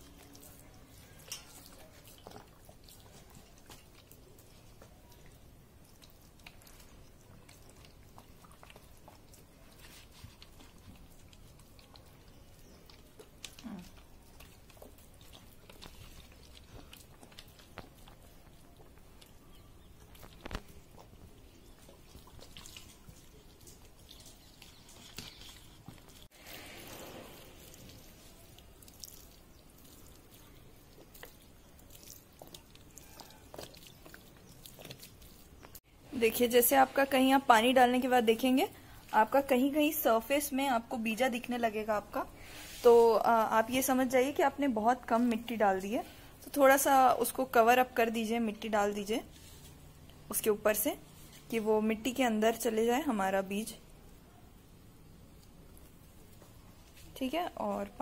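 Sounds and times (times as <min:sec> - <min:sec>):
water trickling onto soil: 0:00.0 - 0:54.2.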